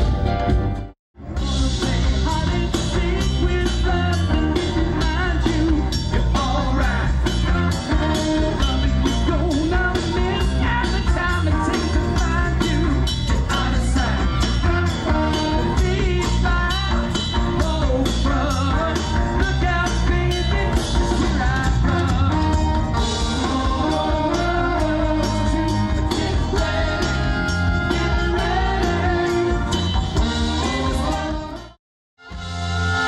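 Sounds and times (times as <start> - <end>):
drum kit: 0.0 - 33.0
electric bass: 0.0 - 33.0
lead vocal: 1.3 - 31.8.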